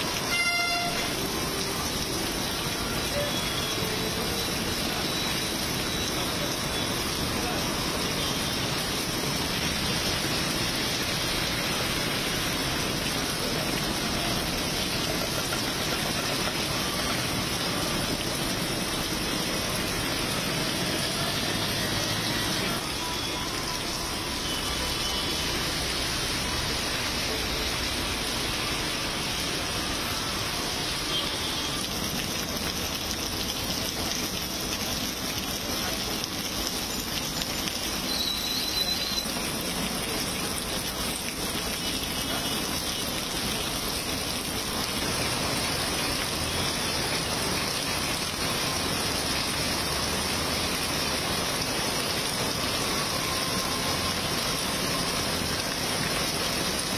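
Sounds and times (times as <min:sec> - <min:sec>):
heavy rain on a road: 0:00.0 - 0:56.9
road traffic: 0:00.0 - 0:56.9.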